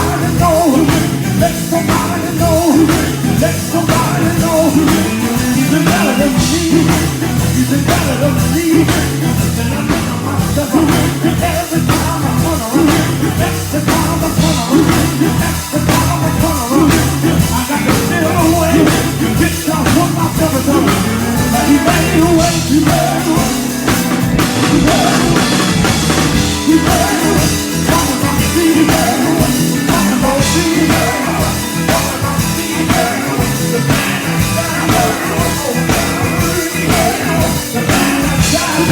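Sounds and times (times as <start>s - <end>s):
drum kit: 0.0s - 38.9s
gospel band music: 0.0s - 38.9s
person singing: 0.0s - 38.9s.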